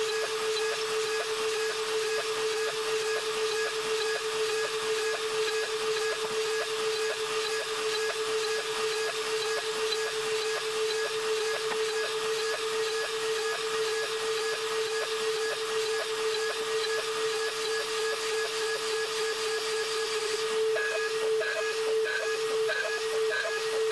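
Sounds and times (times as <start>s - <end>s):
end mill cutting aluminium: 0.0s - 23.9s
router motor high whine: 0.0s - 23.9s.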